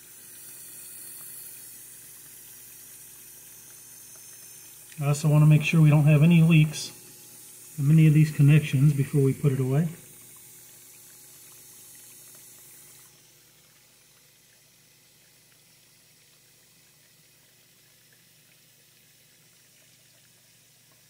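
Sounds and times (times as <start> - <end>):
dishwasher filling with water: 0.0 - 21.0.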